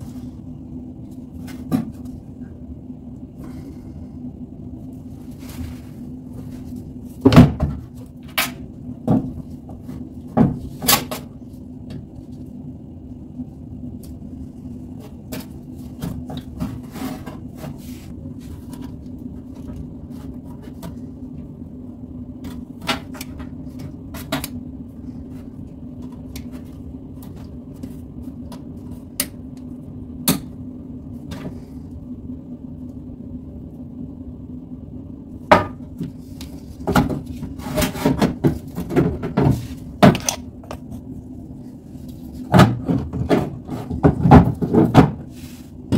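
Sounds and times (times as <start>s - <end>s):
washing machine humming: 0.0s - 45.9s.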